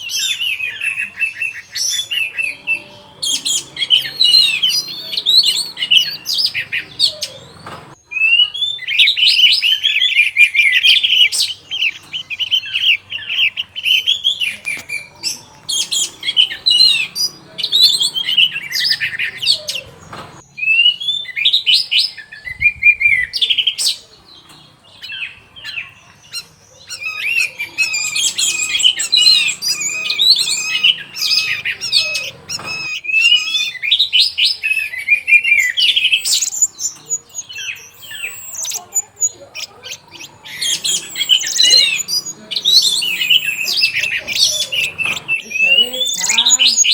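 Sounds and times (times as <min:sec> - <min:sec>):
thrush singing: 0:00.0 - 0:24.1, 0:24.7 - 0:46.9.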